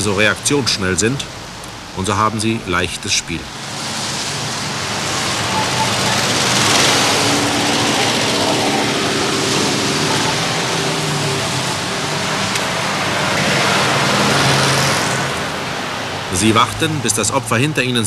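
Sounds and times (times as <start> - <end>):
cars driving on road: 0.0 - 18.0.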